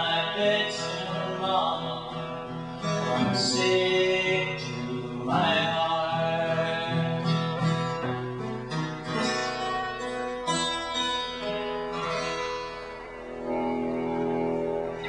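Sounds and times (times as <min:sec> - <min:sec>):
guitar plucked notes and chords: 0:00.0 - 0:15.0.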